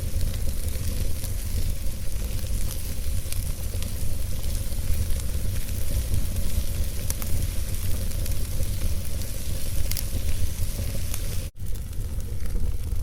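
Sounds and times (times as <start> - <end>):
fire crackling: 0.0 - 13.0
fireplace fire rumbling: 0.0 - 13.0.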